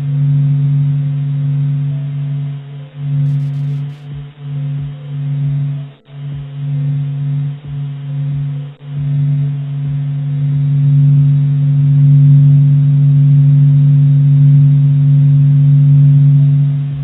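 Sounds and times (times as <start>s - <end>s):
deep steady drone: 0.0s - 17.0s.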